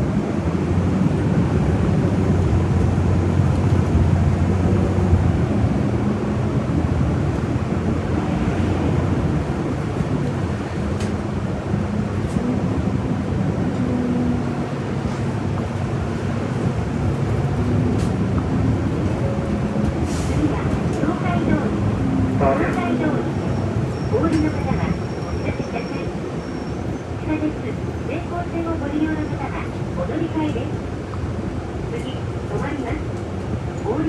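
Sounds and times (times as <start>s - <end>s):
bus engine hum: 0.0s - 34.0s
road noise: 0.0s - 34.0s.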